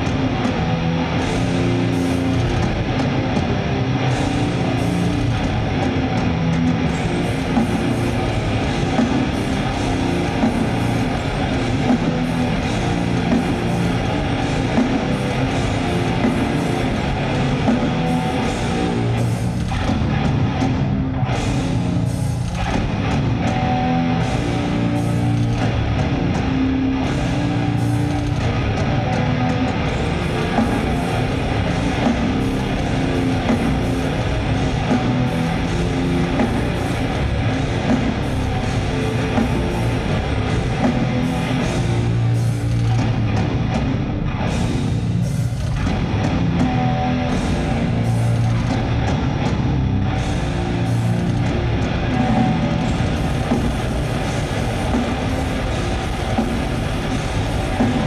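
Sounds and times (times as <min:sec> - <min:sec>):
distorted electric guitar riffing: 0:00.0 - 0:58.0.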